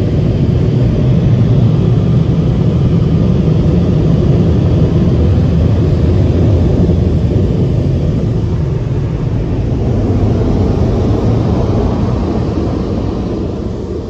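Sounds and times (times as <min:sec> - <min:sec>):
dryer blowers rushing air: 0:00.0 - 0:14.0.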